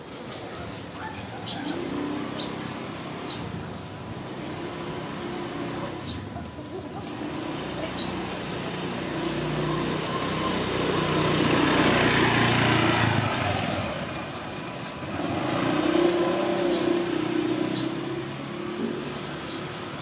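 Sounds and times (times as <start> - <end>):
vehicle engines passing: 0.0 - 20.0.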